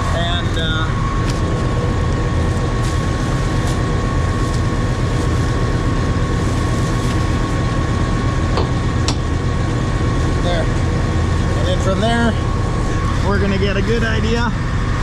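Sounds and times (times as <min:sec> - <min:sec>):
combine harvester engine drone: 0:00.0 - 0:15.0
thin steady whine: 0:00.0 - 0:15.0.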